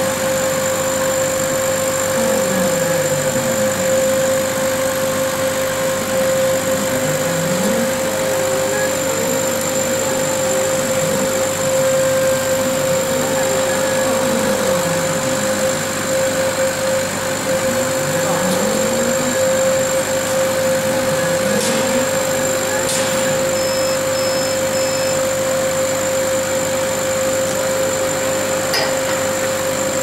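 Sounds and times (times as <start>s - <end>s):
motors whining: 0.0s - 30.0s
steady mechanical hum: 0.0s - 30.0s.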